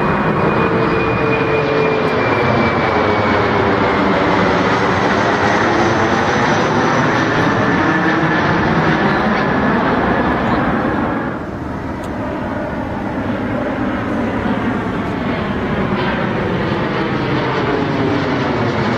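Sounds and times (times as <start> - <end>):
jet airliner engine rushing: 0.0 - 18.9.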